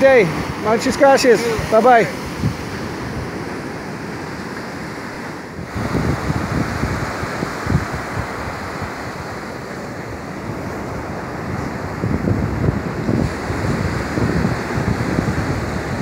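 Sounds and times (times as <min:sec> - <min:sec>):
ocean surf breaking: 0:00.0 - 0:16.0
wind rumbling on microphone: 0:00.0 - 0:16.0.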